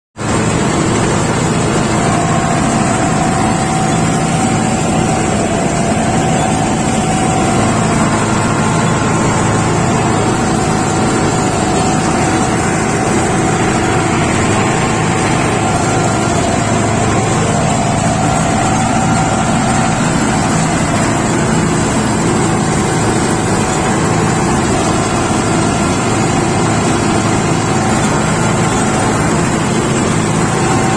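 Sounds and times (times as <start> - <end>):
harvester machinery whine: 0.2 - 30.9
tractor diesel engine rumble: 0.2 - 30.9.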